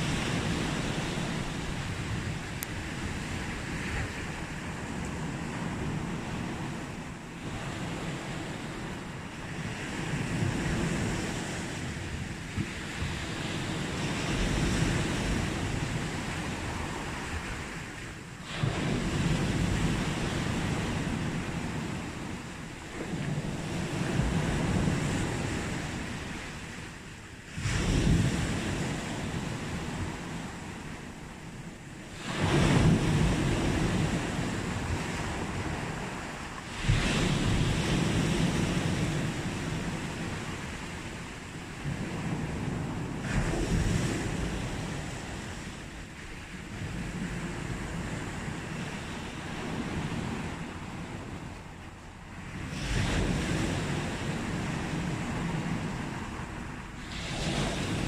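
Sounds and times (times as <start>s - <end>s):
sea waves breaking on a beach: 0.0s - 58.0s.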